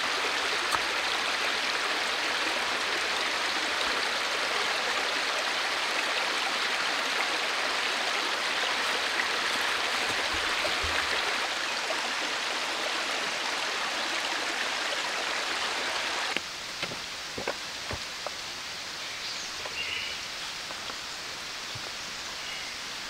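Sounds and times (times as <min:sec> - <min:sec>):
stream running over stones: 0:00.0 - 0:23.0.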